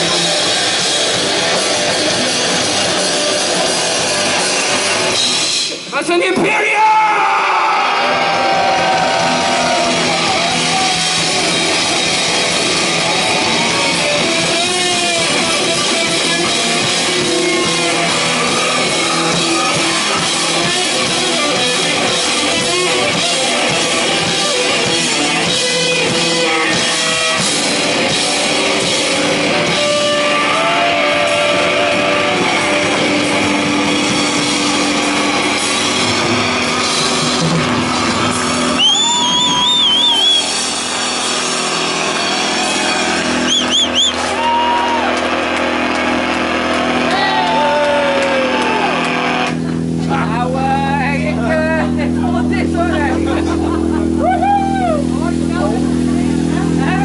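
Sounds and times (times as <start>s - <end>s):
bending guitar notes: 0.0s - 5.9s, 8.2s - 57.0s
rock band playing: 0.0s - 57.0s.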